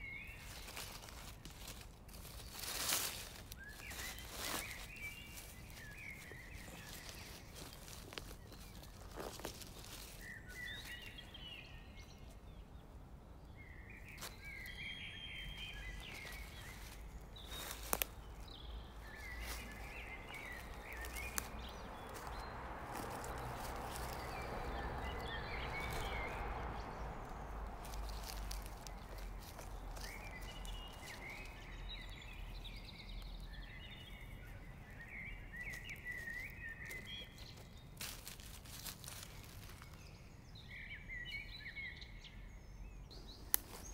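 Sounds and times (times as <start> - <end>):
footsteps in dry leaves: 0.0 - 12.6, 13.9 - 41.6, 43.1 - 43.9
small birds chirping: 0.0 - 43.9.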